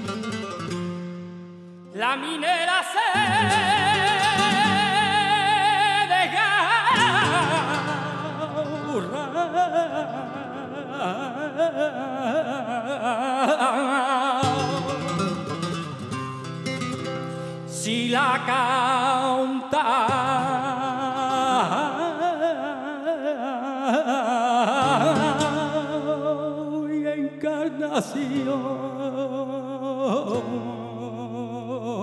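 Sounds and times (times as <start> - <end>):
flamenco guitar: 0.0 - 23.3, 24.0 - 32.0
person singing flamenco: 0.0 - 32.0.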